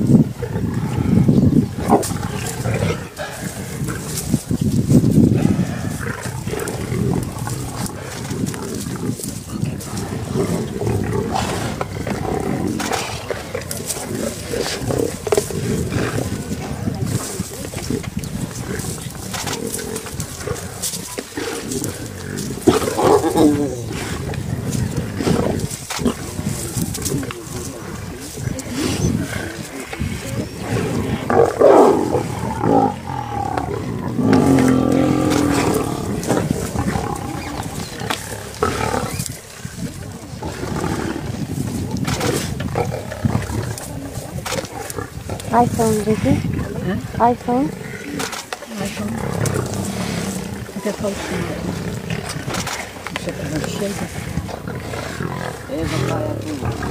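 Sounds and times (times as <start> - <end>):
lions growling: 0.0 - 56.9.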